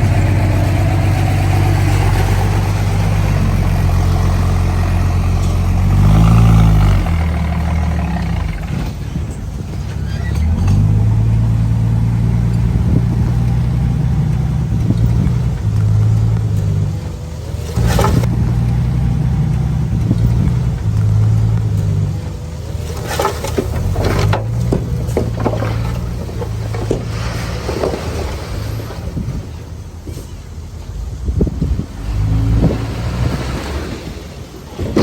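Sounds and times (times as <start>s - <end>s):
metallic clanks and squeals: 0.0s - 30.9s
bulldozer diesel engine under load: 0.0s - 35.0s.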